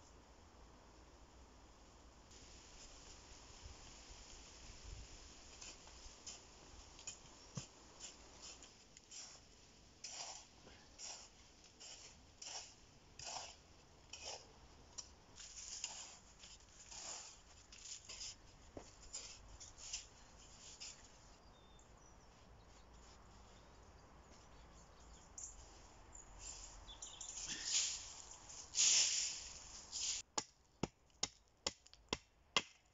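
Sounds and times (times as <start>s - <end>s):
digging in sandy earth: 2.3s - 31.8s.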